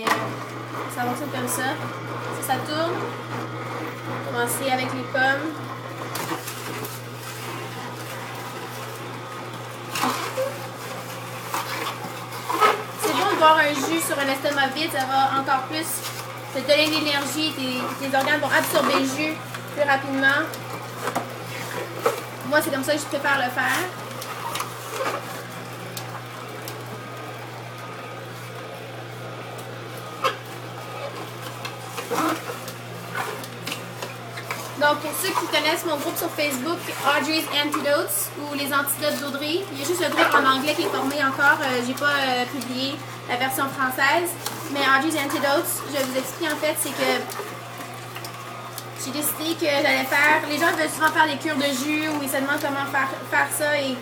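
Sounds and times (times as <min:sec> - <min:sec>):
auger crushing apple: 0:00.0 - 0:54.0
juicer motor humming: 0:00.0 - 0:54.0.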